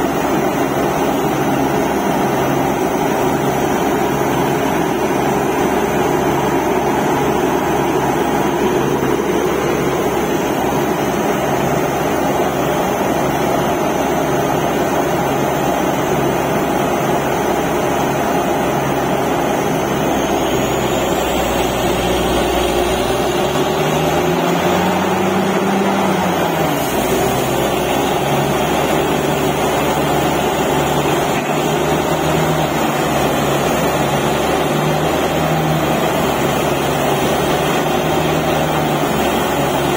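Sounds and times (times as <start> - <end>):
air compressor running: 0.0 - 39.9
drilling rig engine: 0.0 - 39.9.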